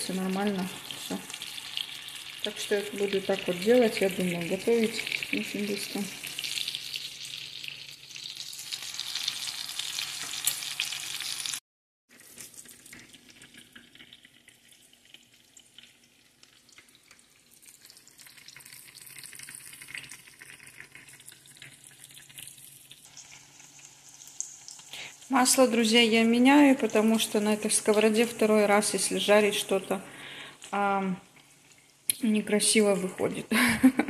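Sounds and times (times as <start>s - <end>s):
patties sizzling in oil: 0.0s - 34.0s.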